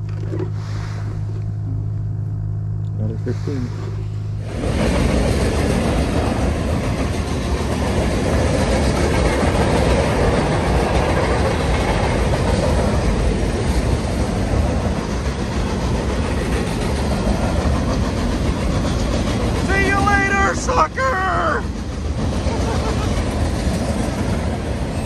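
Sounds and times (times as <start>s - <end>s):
freight train rumbling over bridge: 0.2s - 25.0s.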